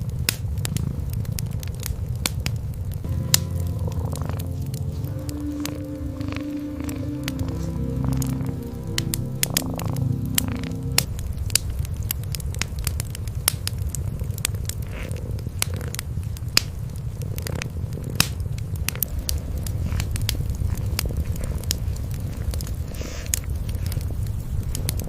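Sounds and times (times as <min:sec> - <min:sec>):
wood fire crackling and popping: 0:00.0 - 0:25.0
cats purring: 0:03.4 - 0:11.2, 0:12.4 - 0:25.0.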